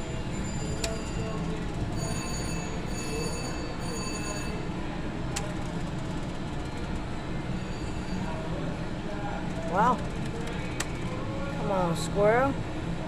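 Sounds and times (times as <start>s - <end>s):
machine and room noise: 0.0s - 13.0s.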